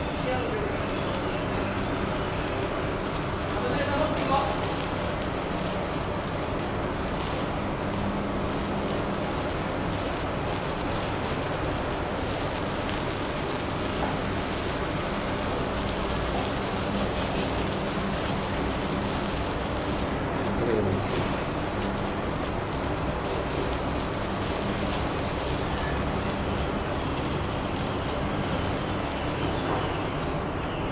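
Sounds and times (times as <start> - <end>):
sparkler hissing and crackling: 0.0 - 30.4.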